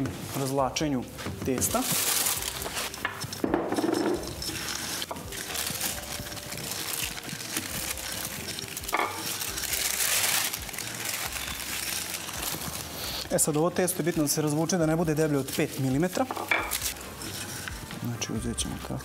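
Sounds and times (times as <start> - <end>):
utensils clinking on pans: 1.4 - 12.2, 13.5 - 18.0
spatula scraping peanuts in saucepan: 1.6 - 18.3.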